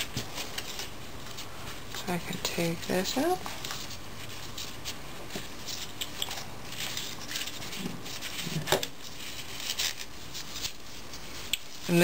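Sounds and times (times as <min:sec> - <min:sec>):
gloves rustling: 0:00.0 - 0:12.0.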